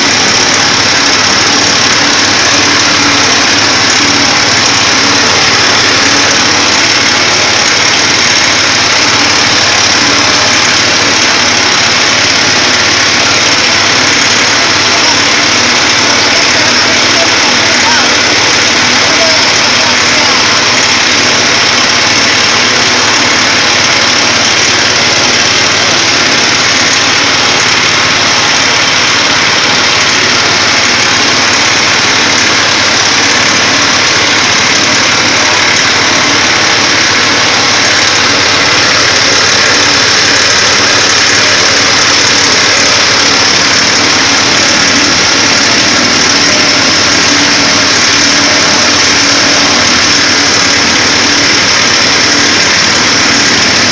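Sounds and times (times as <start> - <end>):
press machine motor droning: 0.0 - 53.9.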